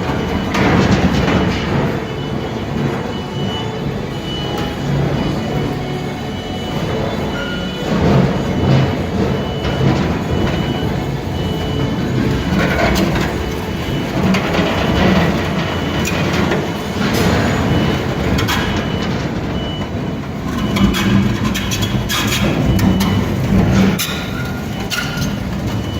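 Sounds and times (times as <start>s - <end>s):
high warning beep: 0.0s - 25.9s
industrial machinery humming: 0.0s - 25.9s.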